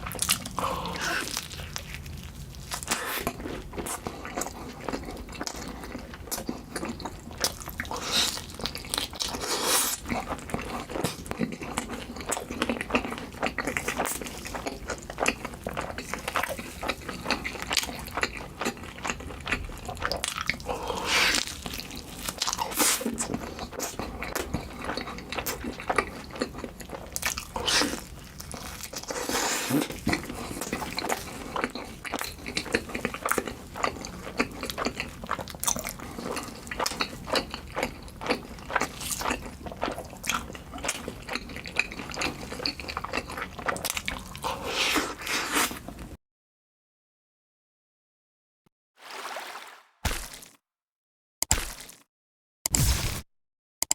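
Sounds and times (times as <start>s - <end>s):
crunchy bites and chewing: 0.0s - 45.9s, 51.5s - 52.1s.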